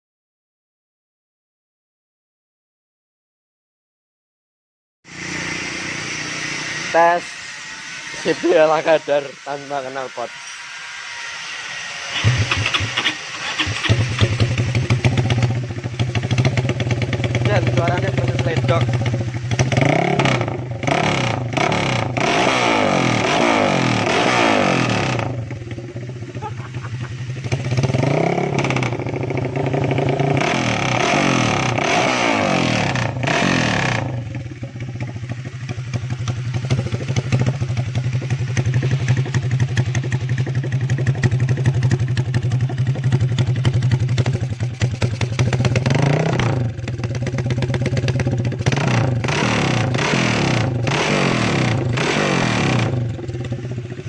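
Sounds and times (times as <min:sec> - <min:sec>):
motorcycle engine idling and revving: 0:05.1 - 0:54.0.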